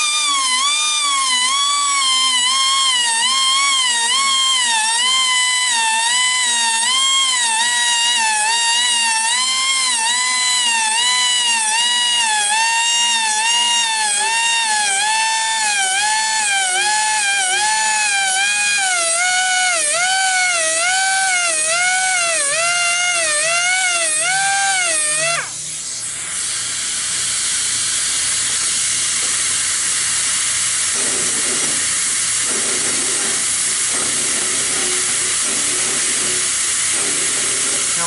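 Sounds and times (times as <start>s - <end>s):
air die grinder whining: 0.0s - 38.0s
air hissing: 0.0s - 38.0s.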